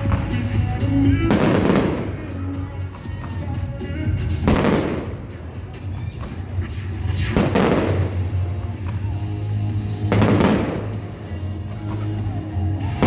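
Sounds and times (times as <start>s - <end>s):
fireworks shells bursting: 0.0s - 12.1s
music playing: 0.0s - 13.0s.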